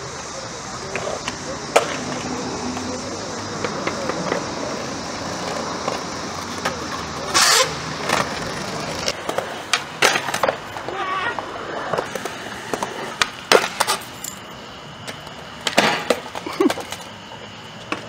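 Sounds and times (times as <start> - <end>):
skateboard wheels rolling on concrete: 0.0 - 18.0
skateboard clack: 0.2 - 14.2, 15.0 - 18.0
skateboard clattering: 0.8 - 14.4, 15.0 - 18.0.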